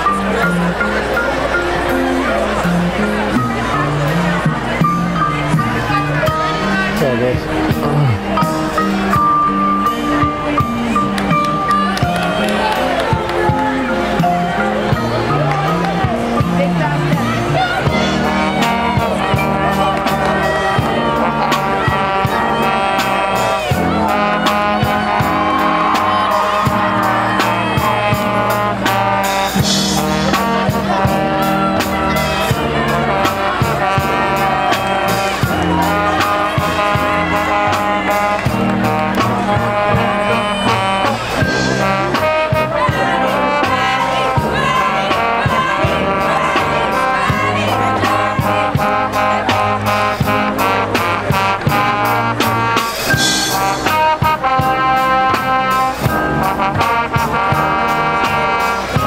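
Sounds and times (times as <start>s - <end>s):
brass marching band playing: 0.0s - 59.0s.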